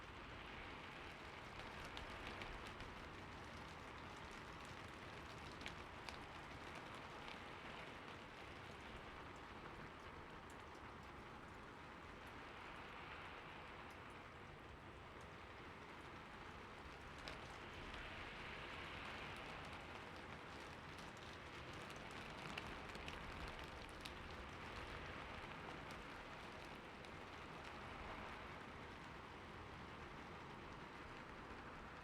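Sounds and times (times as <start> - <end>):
light rain falling: 0.0 - 32.0
raindrop ticks: 0.9 - 13.0, 15.1 - 32.0.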